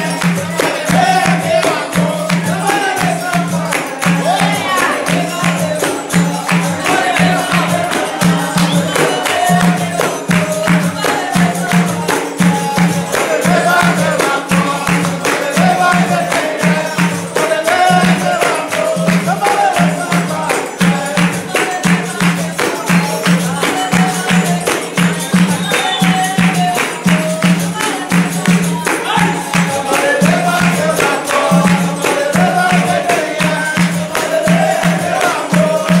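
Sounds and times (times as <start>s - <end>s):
berimbau and pandeiro rhythm: 0.0s - 36.0s
hand-clapping: 0.0s - 36.0s
voices singing: 0.0s - 36.0s.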